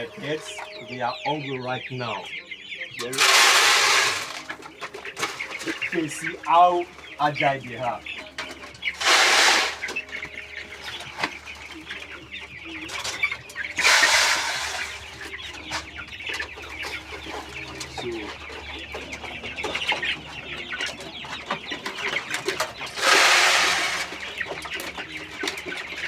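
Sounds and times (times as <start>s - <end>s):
chickens clucking and calling: 0.0s - 26.0s.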